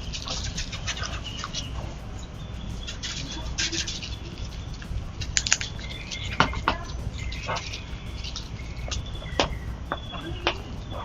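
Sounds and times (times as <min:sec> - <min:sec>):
low background hum: 0:00.0 - 0:11.0
parrot chirps and clicks: 0:00.0 - 0:11.0.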